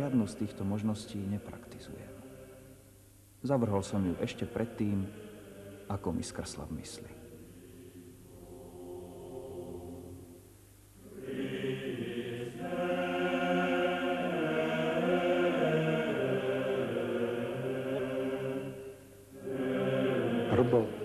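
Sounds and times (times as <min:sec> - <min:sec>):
voices singing sustained chords: 0:00.0 - 0:21.0.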